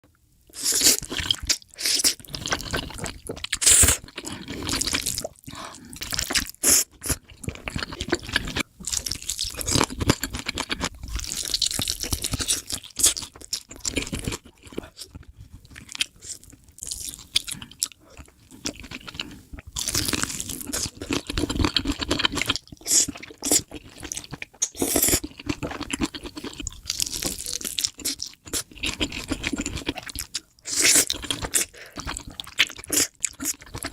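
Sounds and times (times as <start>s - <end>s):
person crunching and chewing food: 0.5s - 33.9s.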